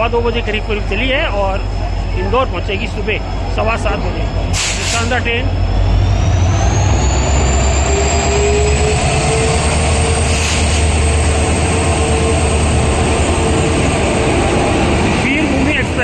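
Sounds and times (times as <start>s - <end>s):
high rising whine: 0.0s - 16.0s
train rumbling: 0.0s - 16.0s.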